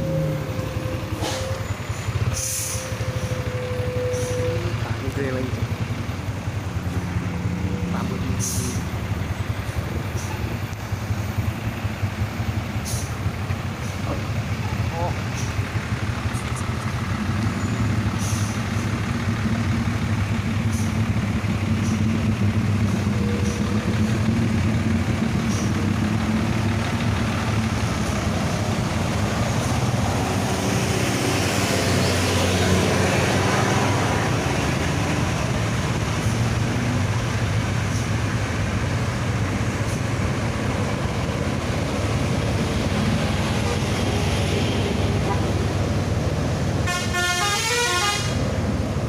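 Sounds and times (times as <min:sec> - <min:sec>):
bus diesel engine running: 0:00.0 - 0:49.0
tyre and road noise: 0:00.0 - 0:49.0.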